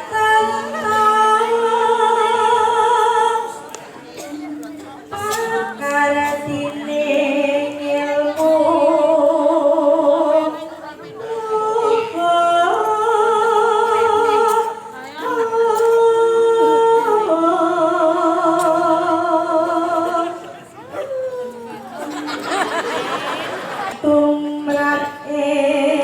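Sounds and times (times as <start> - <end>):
woman singing unaccompanied: 0.0 - 22.8, 23.4 - 26.0.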